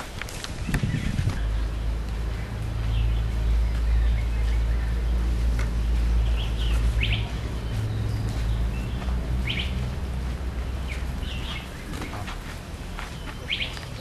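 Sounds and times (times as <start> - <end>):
low steady rumble: 0.0 - 13.1
birds chirping: 0.0 - 14.0.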